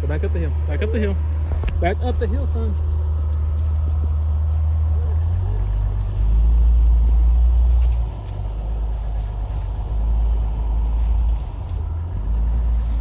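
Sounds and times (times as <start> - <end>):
engine deep low rumble: 0.0 - 13.0.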